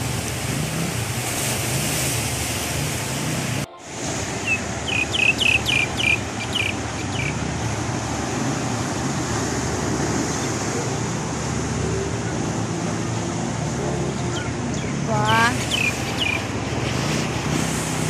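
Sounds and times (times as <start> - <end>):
surf washing over rocks: 0.0 - 18.0
wind: 0.0 - 18.0.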